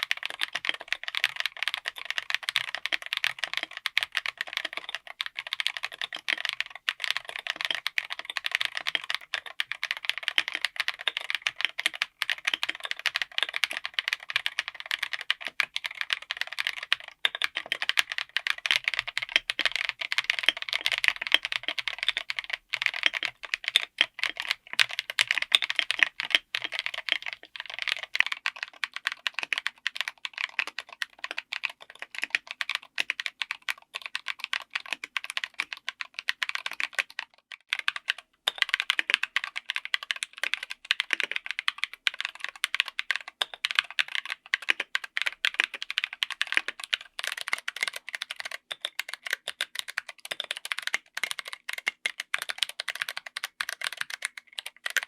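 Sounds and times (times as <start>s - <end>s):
fast typing on mechanical keyboard: 0.0s - 55.0s.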